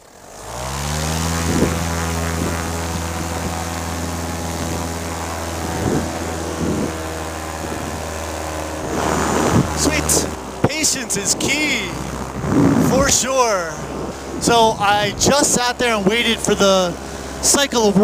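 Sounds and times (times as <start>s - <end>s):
paramotor engine and propeller: 0.0s - 18.0s.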